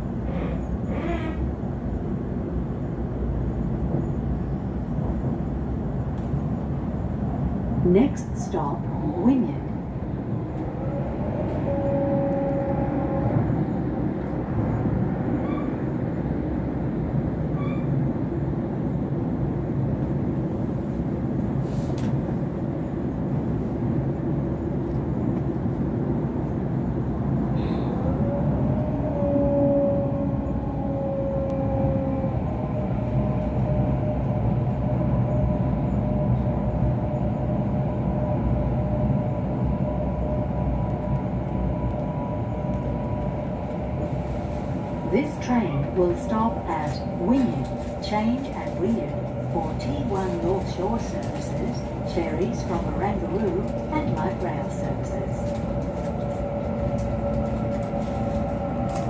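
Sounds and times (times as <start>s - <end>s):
electric train rumble: 0.0s - 59.0s.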